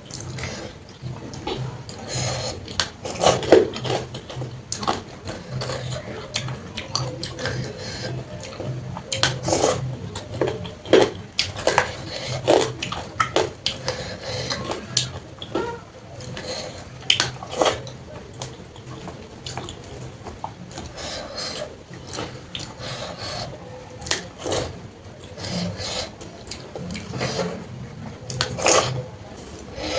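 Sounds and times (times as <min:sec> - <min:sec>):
wet eating squelches and smacks: 0:00.0 - 0:29.9.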